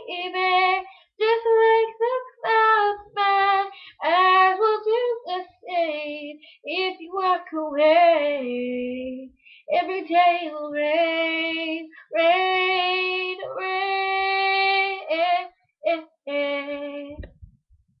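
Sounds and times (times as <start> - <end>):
woman singing unaccompanied: 0.0 - 17.3.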